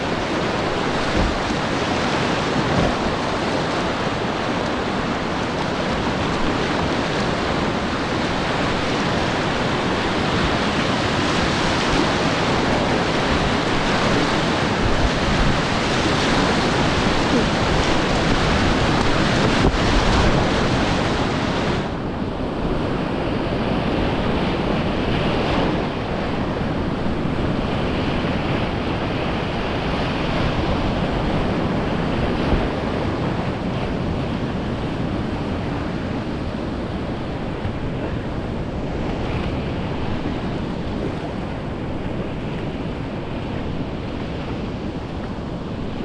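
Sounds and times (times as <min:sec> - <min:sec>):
whitewater rushing in stream: 0:00.0 - 0:46.0
wind noise on microphone: 0:00.0 - 0:46.0.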